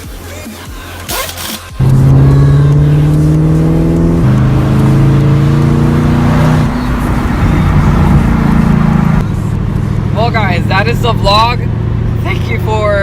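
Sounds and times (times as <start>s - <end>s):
car engine pulling: 1.8s - 13.0s.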